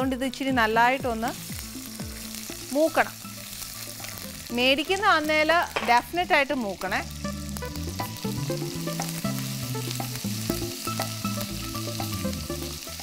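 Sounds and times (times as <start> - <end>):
paste sizzling in oil: 0.6 - 13.0.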